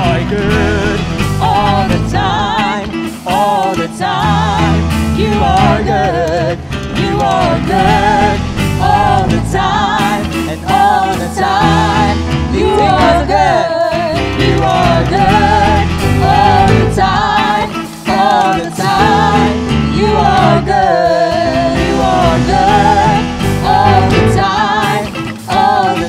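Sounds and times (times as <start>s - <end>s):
group singing worship song: 0.0s - 26.0s
instrumental accompaniment: 0.0s - 26.0s.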